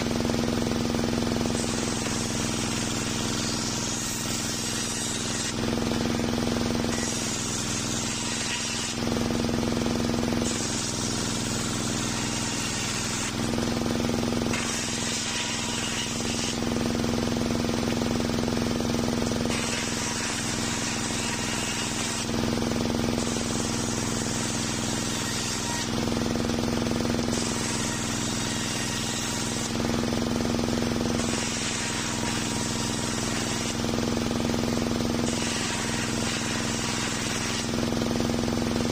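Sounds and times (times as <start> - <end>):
circular saw blade hissing through wood: 0.0 - 38.9
sawmill machine hum: 0.0 - 38.9.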